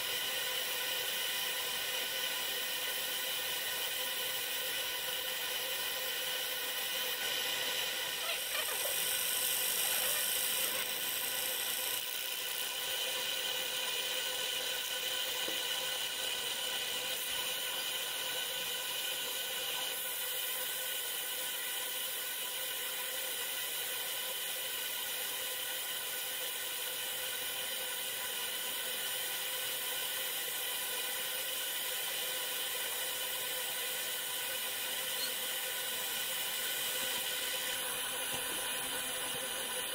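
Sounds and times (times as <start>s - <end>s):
machine hiss: 0.0s - 39.9s.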